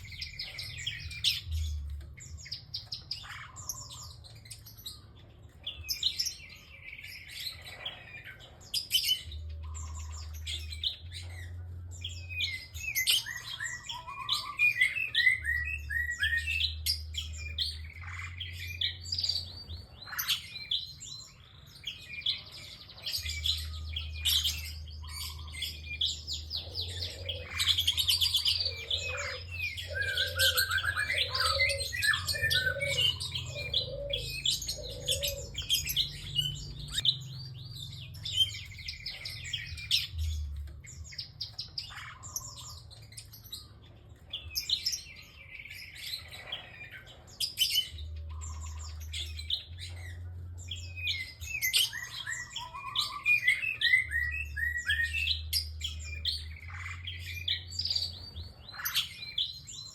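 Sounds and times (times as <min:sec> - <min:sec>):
bird singing fast chirps and trills: 0:00.0 - 0:59.9.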